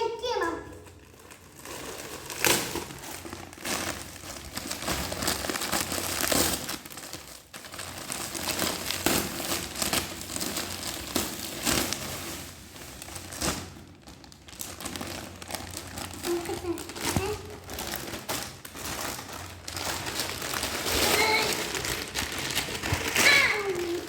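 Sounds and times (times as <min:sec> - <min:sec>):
packaging crinkling and rustling: 0:00.5 - 0:24.0.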